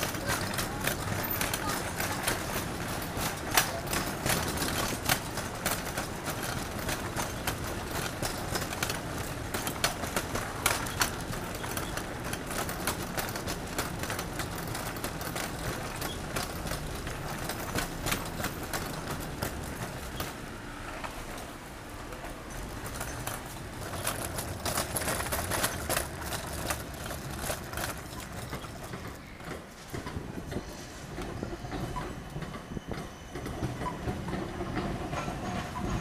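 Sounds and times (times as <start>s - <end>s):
traffic hum: 0.0s - 36.0s.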